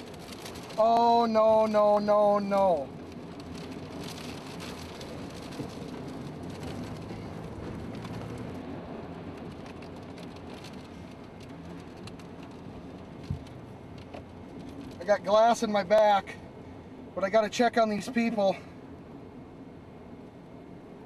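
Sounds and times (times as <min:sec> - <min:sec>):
rain: 0:00.0 - 0:21.0.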